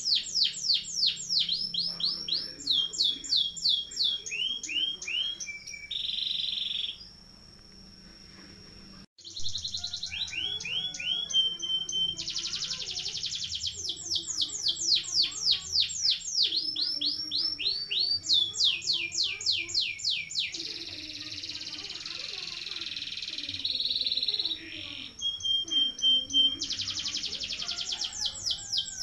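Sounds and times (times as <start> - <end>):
canary singing trills: 0.0 - 7.3, 9.2 - 29.0.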